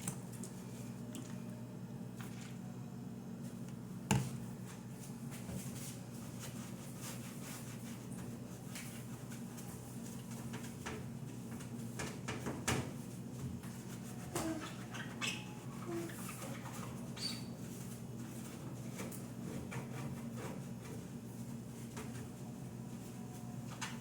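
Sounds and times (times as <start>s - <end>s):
refrigerator low hum: 0.0s - 24.0s.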